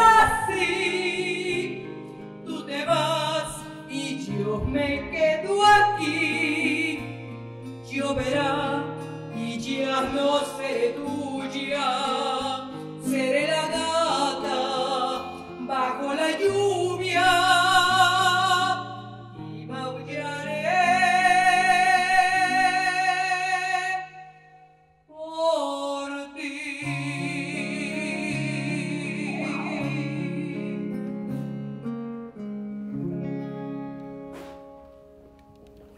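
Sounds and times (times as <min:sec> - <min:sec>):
strummed acoustic guitar: 0:00.0 - 0:23.3, 0:26.8 - 0:35.9
woman singing ballad: 0:00.0 - 0:24.3, 0:25.1 - 0:31.5.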